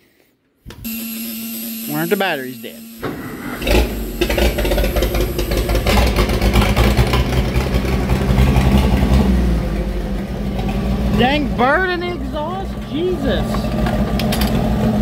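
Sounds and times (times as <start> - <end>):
tractor engine starting and idling: 0.8 - 15.0.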